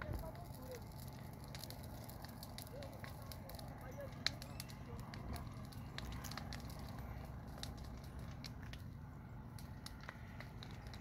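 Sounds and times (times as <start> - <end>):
brush fire crackling: 0.0 - 11.0
sharp pops of burning wood: 0.0 - 11.0.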